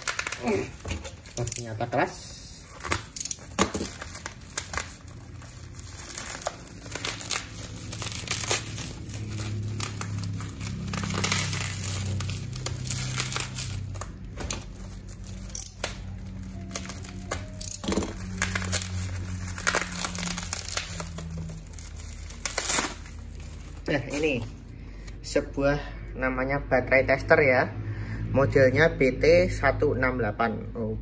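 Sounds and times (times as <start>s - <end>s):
plastic wrapping crinkling and tearing: 0.0s - 25.2s.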